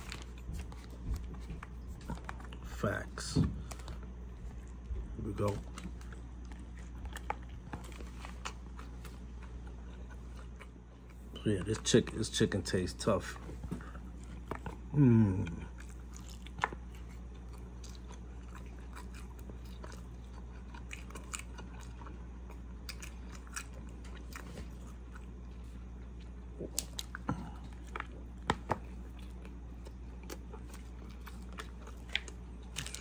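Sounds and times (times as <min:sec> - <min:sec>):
chewing food: 0:00.0 - 0:02.8, 0:03.6 - 0:33.0
steady low hum: 0:00.0 - 0:33.0.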